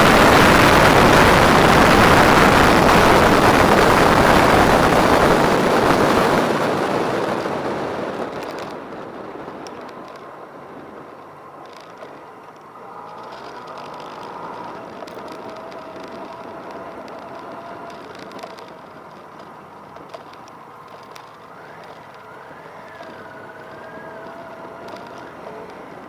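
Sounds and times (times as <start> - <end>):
distant motorcycle engines droning: 0.0 - 26.0.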